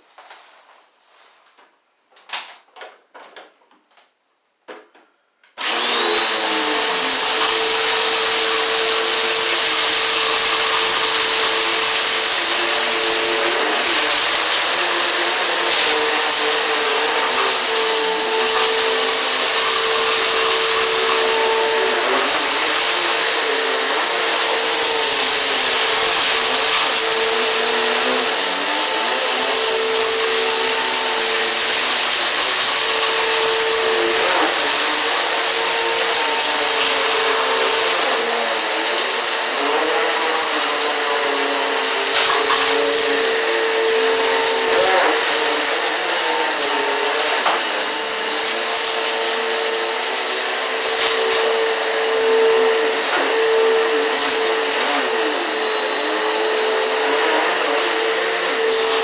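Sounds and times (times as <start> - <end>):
vacuum cleaner running: 5.6 - 59.0.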